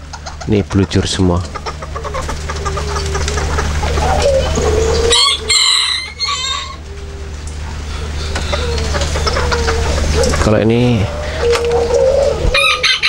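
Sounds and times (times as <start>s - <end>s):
chickens clucking: 0.0s - 13.0s
steady low hum: 0.0s - 13.0s
rooster crowing: 1.7s - 13.0s.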